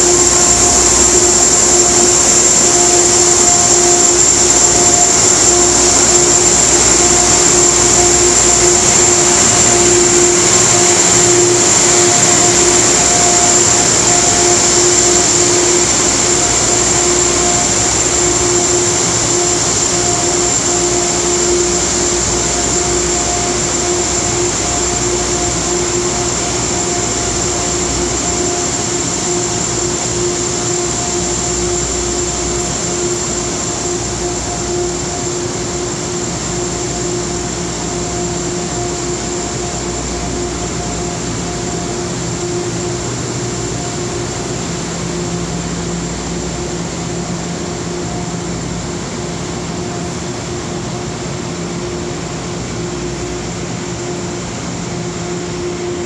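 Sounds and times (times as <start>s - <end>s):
train hum with high whine: 0.0s - 56.0s.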